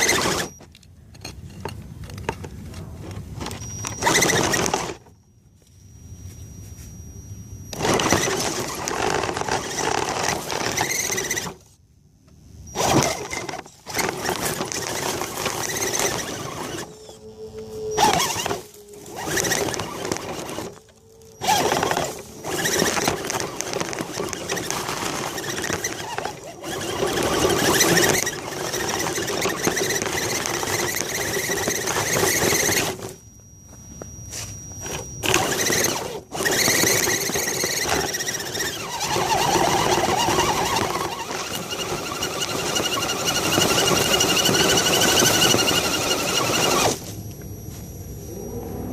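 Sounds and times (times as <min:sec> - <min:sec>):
electric motor and gears whining: 0:00.0 - 0:48.9.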